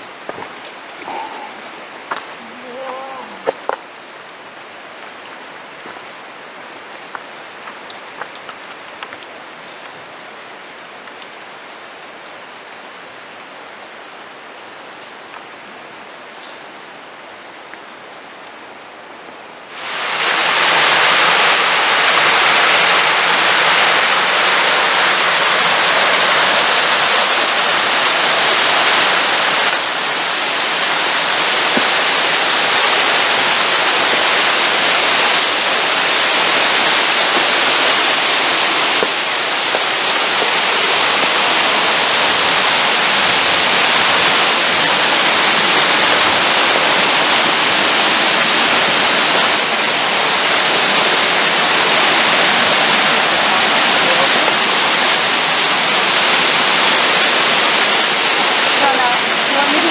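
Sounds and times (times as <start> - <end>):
waterfall rushing over rocks: 0.0 - 16.1, 19.6 - 59.9.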